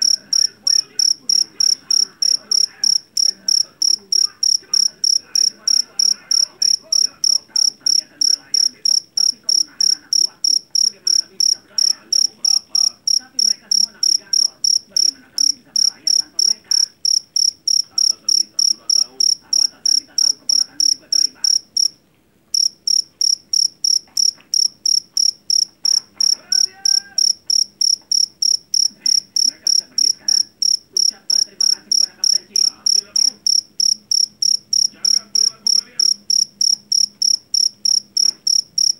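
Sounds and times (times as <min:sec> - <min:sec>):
cricket chirping shrilly: 0:00.0 - 0:22.0, 0:22.6 - 0:38.9.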